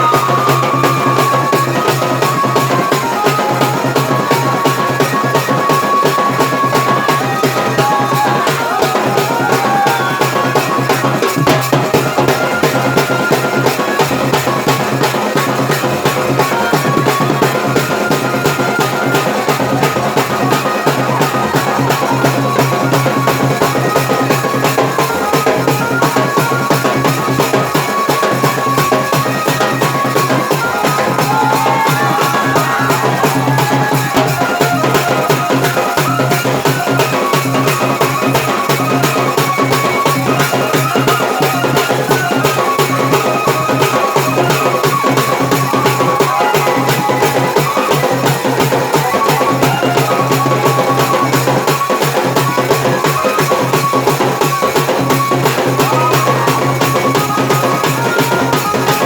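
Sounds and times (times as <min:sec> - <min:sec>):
dance music with drum beat: 0:00.0 - 0:59.0.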